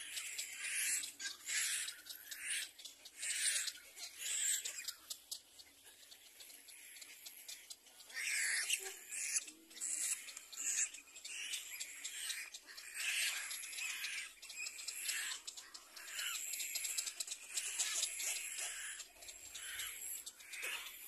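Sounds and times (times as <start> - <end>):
chicks raspy begging calls: 0.0 - 21.0.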